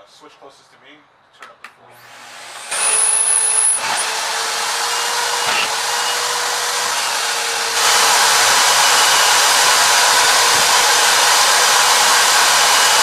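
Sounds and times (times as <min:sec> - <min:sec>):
shop vacuum running: 0:01.9 - 0:13.0.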